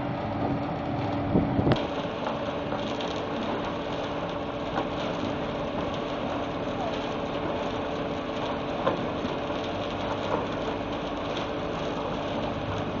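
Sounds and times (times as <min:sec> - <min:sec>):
mixer drum turning: 0:00.0 - 0:13.0.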